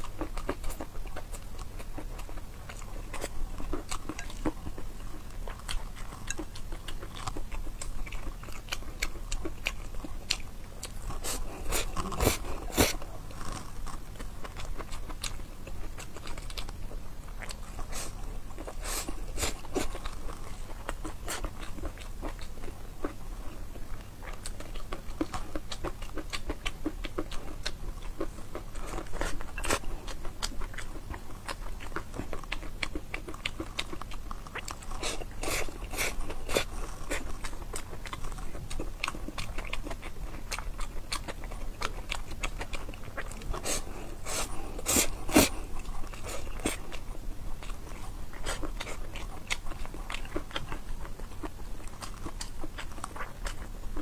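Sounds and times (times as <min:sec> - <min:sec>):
person chewing noodles: 0:00.0 - 0:54.0.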